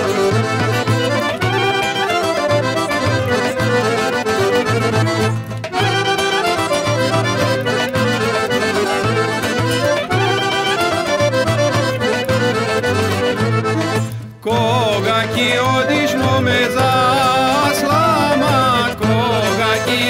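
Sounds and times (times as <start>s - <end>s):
folk melody over repeating bass: 0.0s - 20.0s.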